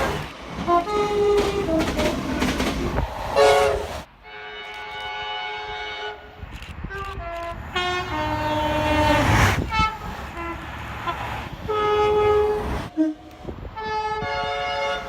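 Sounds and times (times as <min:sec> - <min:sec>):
multi-tone train horn blasts: 0:00.0 - 0:02.5, 0:03.4 - 0:15.0.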